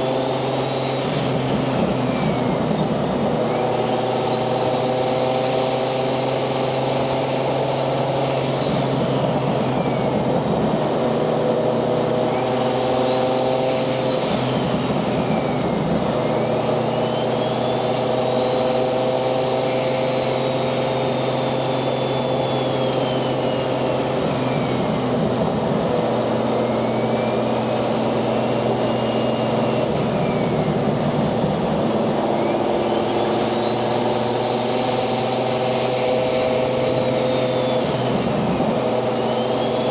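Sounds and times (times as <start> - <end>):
high turbo whistle: 0.2 - 10.4, 12.3 - 39.9.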